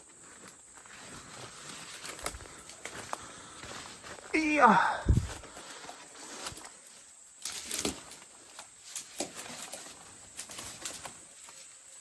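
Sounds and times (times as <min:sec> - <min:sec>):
footsteps through dry undergrowth: 0:00.0 - 0:12.0.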